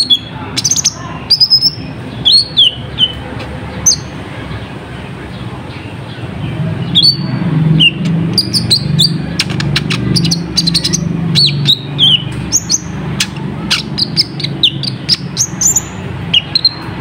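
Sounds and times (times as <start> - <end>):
sunbird chirping: 0.0 - 16.9.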